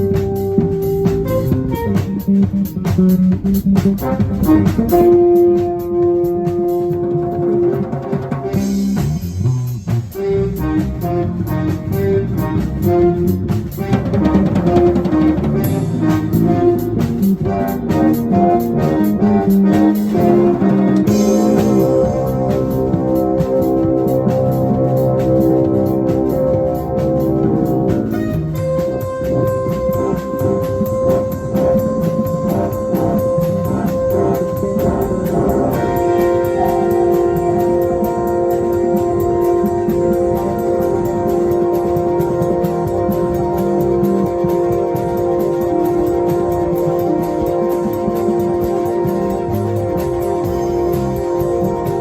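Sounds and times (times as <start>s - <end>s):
jazz-rock band playing: 0.0s - 52.0s
organ sustained chords: 0.0s - 52.0s.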